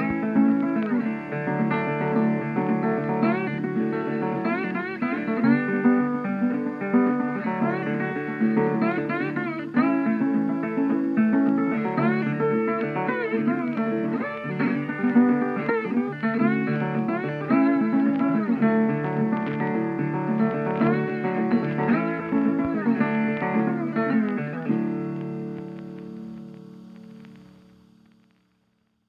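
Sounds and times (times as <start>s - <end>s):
plucked guitar background music: 0.0s - 28.4s.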